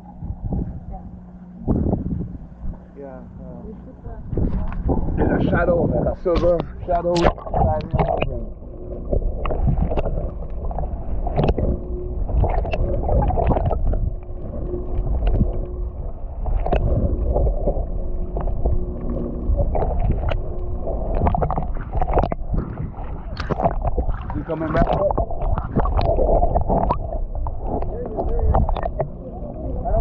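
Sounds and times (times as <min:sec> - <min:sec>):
low rumble: 0:00.0 - 0:30.0
water slapping boat hulls: 0:04.1 - 0:30.0.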